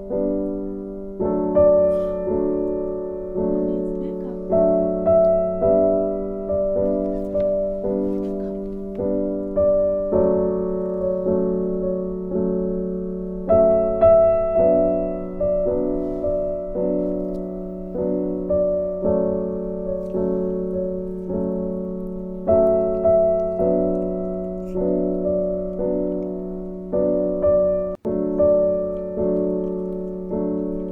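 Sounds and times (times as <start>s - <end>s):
gentle piano melody: 0.0s - 30.9s.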